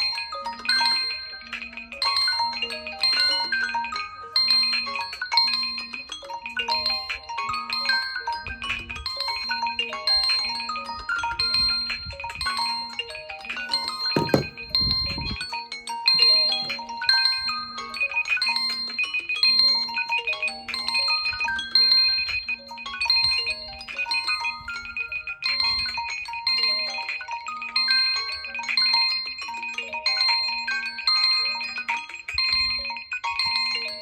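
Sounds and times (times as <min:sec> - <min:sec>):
smartphone ringtones and alarm melodies: 0:00.0 - 0:34.0.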